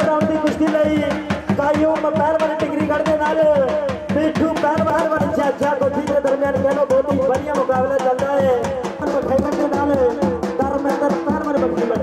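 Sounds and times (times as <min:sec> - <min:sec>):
dhol drums beating: 0:00.0 - 0:12.0.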